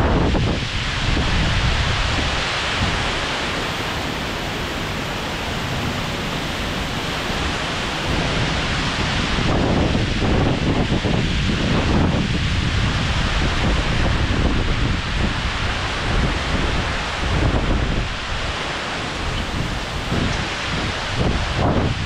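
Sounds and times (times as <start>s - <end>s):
heavy rain pouring: 0.0s - 22.0s
wind on microphone: 0.0s - 22.0s.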